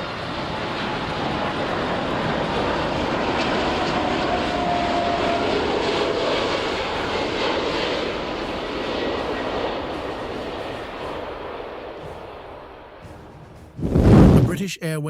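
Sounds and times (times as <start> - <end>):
jet engines roaring at takeoff: 0.0 - 14.5.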